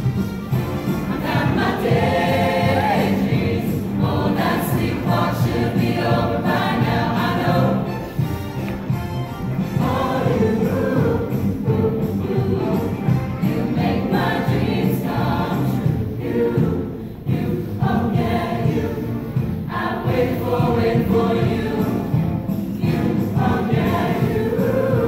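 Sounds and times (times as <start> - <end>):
instrumental accompaniment with beat: 0.0 - 25.0
choir singing: 0.8 - 8.4, 9.6 - 25.0.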